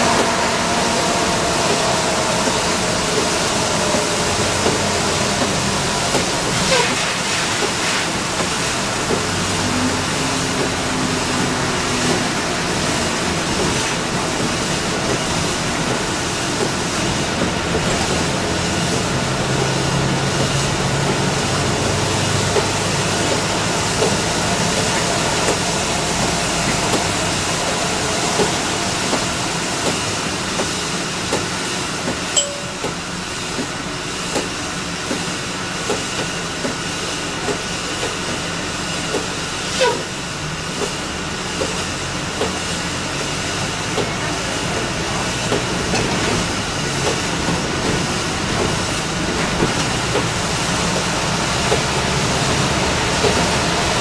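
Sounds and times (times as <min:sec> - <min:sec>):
tyres hissing on wet pavement: 0:00.0 - 0:32.3, 0:33.1 - 0:54.0
bus engine and road noise: 0:00.0 - 0:54.0.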